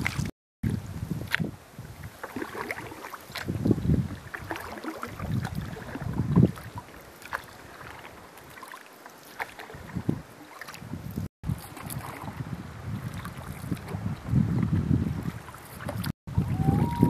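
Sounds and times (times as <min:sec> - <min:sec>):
wind on microphone: 0:00.0 - 0:08.6, 0:09.6 - 0:17.0
paddle strokes splashing: 0:01.2 - 0:17.0.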